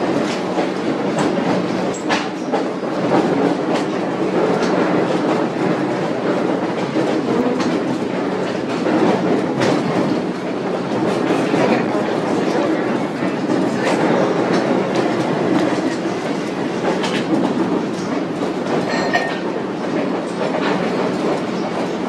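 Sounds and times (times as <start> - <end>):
train car rumbling on track: 0.0 - 22.0.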